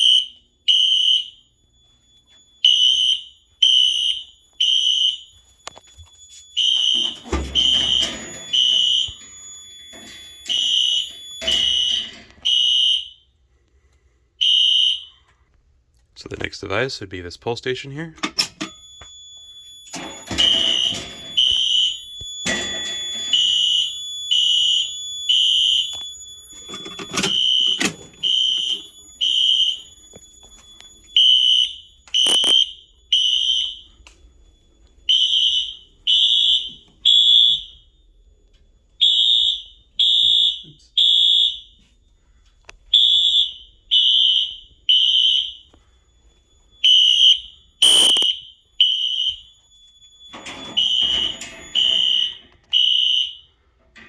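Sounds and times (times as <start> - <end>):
fire alarm beeping: 0.0 - 15.6, 16.2 - 54.0.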